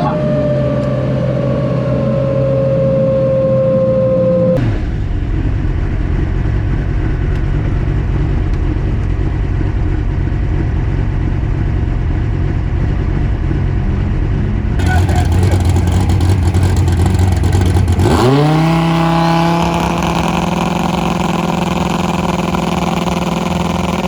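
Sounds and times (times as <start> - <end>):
loud engine rumble: 0.0 - 24.0
drag race car engine running hard: 4.6 - 24.0.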